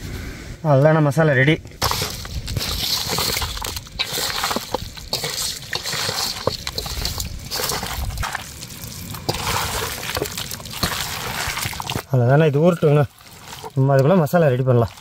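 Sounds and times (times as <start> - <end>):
hand squelching wet marinade: 1.8 - 15.0.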